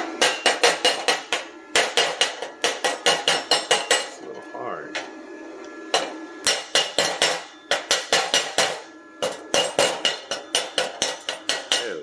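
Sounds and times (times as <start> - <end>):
hammer striking steel: 0.2 - 4.1, 6.0 - 12.0.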